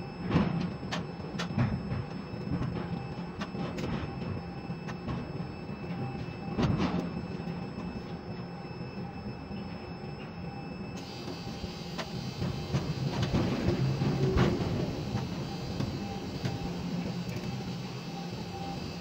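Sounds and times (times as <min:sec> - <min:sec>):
crane machinery humming: 0:00.0 - 0:19.0.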